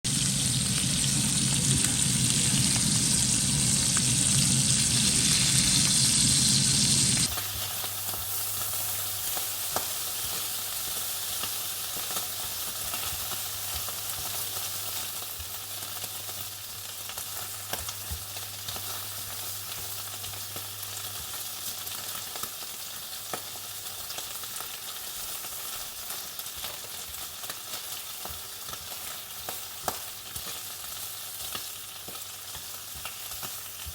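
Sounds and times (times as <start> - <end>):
food sizzling in a pan: 0.1 - 33.9.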